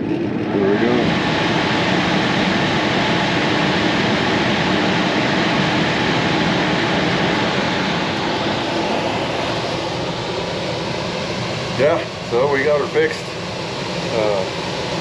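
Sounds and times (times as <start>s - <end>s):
furnace blower rushing air: 0.0s - 15.0s.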